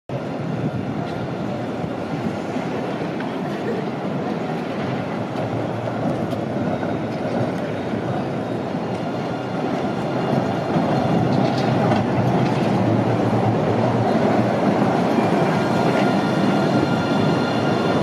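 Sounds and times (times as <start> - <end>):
tram wheels rumbling on rails: 0.1 - 18.0.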